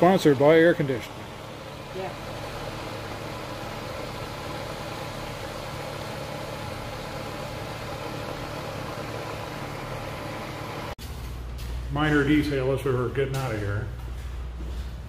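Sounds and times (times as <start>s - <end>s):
fan noise: 0.0s - 15.0s
mechanical hum: 0.0s - 15.0s.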